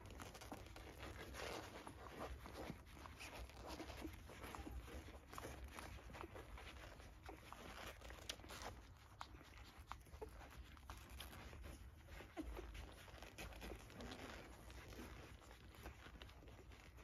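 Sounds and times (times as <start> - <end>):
puppies squeaking softly: 0.0 - 17.0
puppies suckling clicks: 0.0 - 17.0.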